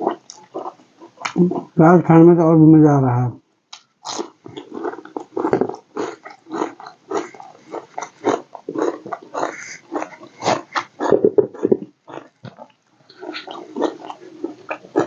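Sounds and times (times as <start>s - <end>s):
person chewing food wetly: 0.0s - 1.8s, 3.7s - 15.0s.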